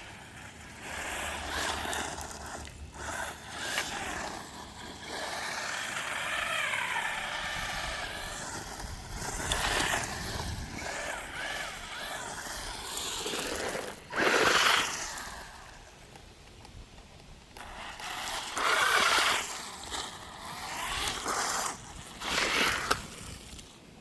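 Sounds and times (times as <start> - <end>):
toy car electric motor whining: 0.0 - 16.1, 17.5 - 23.8.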